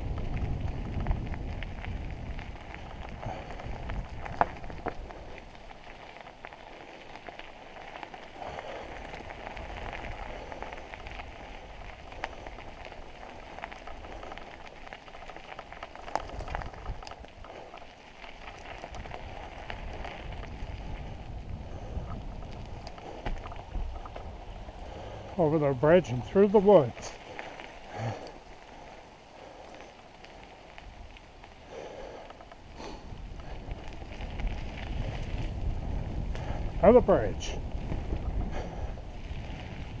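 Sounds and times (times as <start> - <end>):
bike tyres rolling on dirt trail: 0.0 - 40.0
wind rumble on microphone: 0.0 - 40.0.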